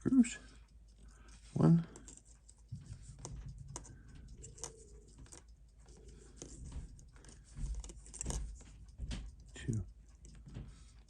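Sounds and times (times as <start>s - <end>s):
screwdriver and tweezers clicking: 0.8s - 11.0s.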